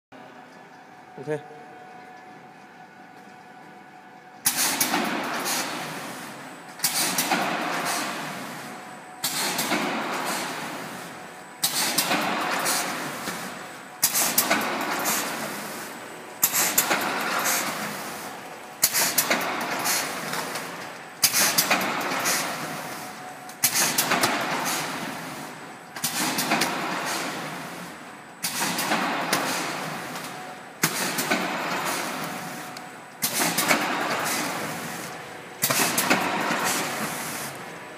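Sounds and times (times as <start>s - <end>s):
packing machine noisy strokes: 4.4s - 37.8s.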